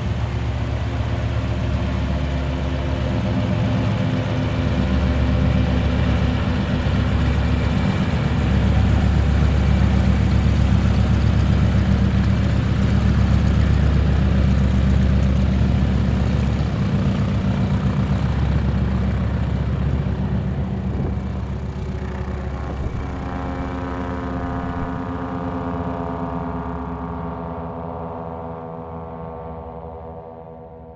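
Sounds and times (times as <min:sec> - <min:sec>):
engine running: 0:00.0 - 0:30.8.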